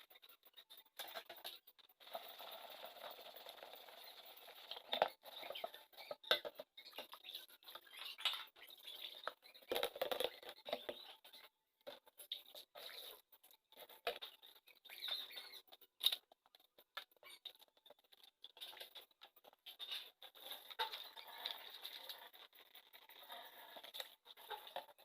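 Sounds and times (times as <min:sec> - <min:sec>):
rustling and scraping: 0:00.8 - 0:25.0.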